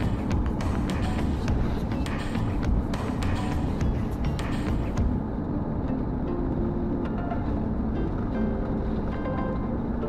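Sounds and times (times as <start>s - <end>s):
background music with held notes: 0.0s - 10.0s
steady low rumble: 0.0s - 10.0s.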